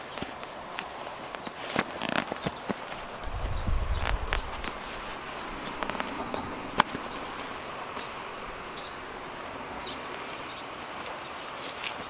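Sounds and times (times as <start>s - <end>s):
outdoor ambience: 0.0s - 12.0s.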